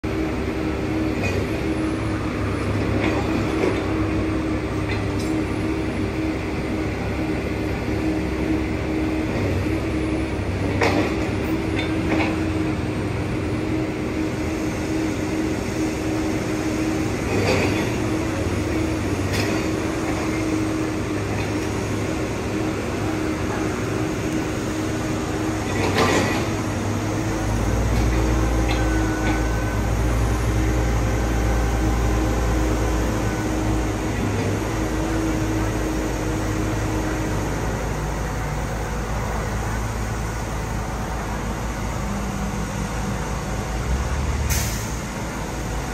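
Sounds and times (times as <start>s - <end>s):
crane engine humming: 0.0s - 45.9s.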